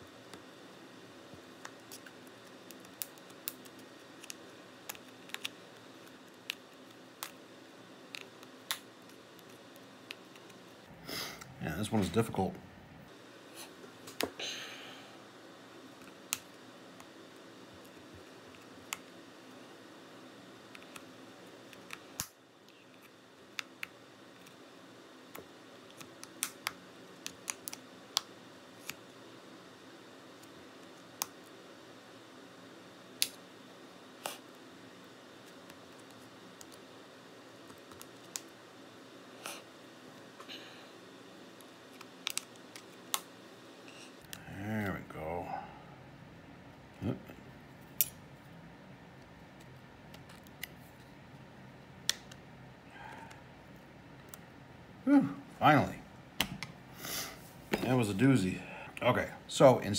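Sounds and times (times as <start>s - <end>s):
faint room hum: 0.0s - 59.9s.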